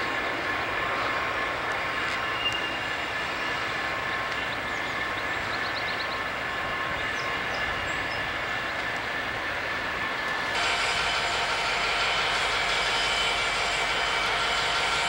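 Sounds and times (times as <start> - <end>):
diesel locomotives idling: 0.0 - 15.0.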